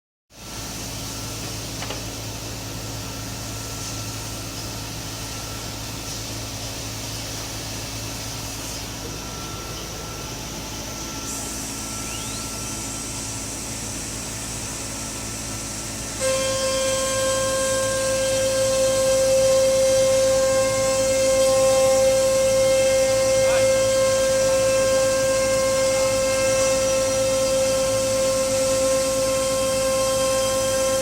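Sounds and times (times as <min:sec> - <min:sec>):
router machine humming and whining: 0:00.4 - 0:31.0.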